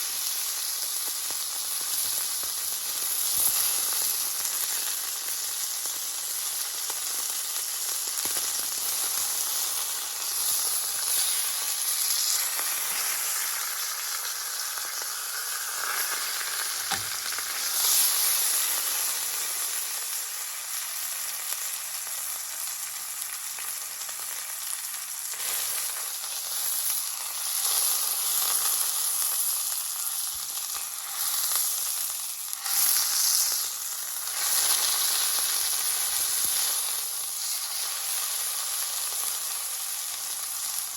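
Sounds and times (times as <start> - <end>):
beef sizzling in a skillet: 0.0 - 40.9.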